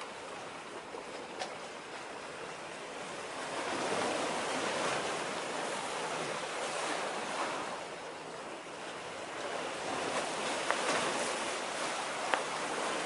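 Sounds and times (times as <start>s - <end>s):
sea waves washing ashore: 0.0s - 13.0s.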